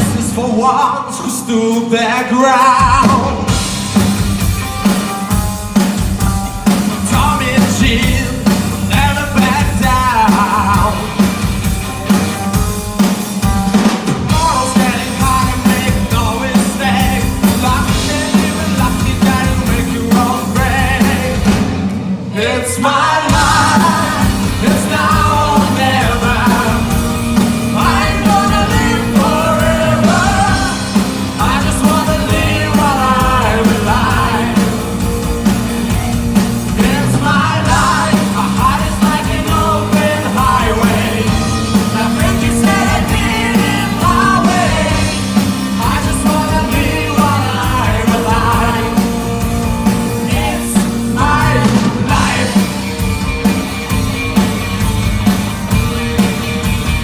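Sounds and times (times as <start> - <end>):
rock band playing: 0.0 - 57.0
drum beat: 2.6 - 22.6, 23.2 - 57.0
pitch-bending lead melody: 2.9 - 57.0.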